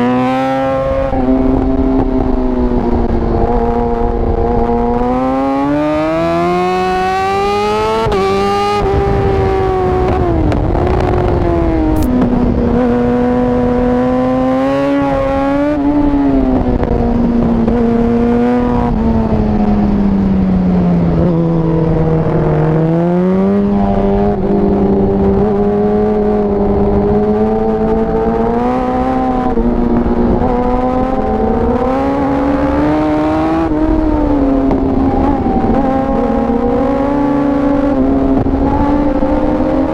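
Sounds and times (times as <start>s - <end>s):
motorcycle engine at full throttle: 0.0s - 39.9s.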